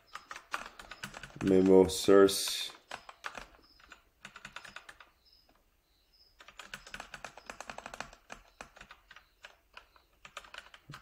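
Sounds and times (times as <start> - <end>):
computer keyboard typing: 0.0 - 5.3, 6.4 - 11.0.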